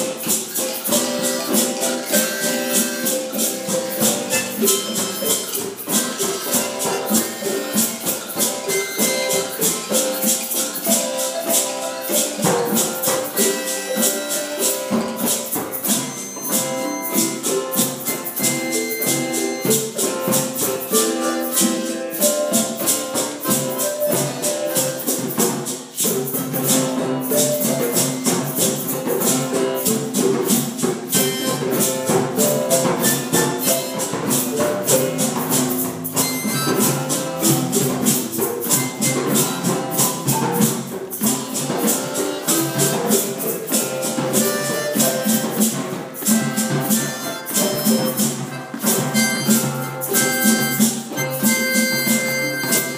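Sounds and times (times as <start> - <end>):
hand drums and percussion rattles: 0.0 - 52.9
held pitched percussion notes: 0.0 - 52.9.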